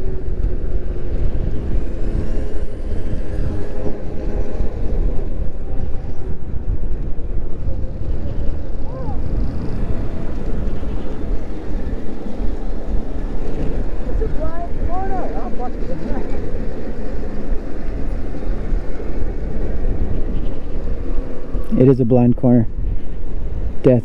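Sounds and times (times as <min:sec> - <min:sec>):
wind rumbling over microphone: 0:00.0 - 0:24.0.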